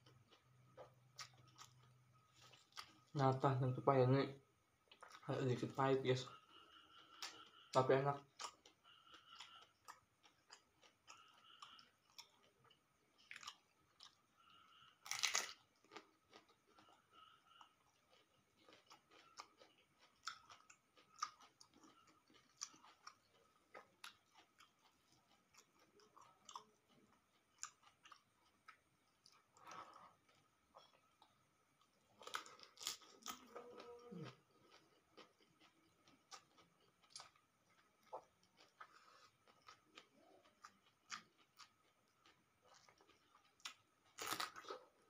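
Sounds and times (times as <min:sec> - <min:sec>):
person chewing leafy vegetables: 0:00.0 - 0:03.5, 0:04.8 - 0:45.0.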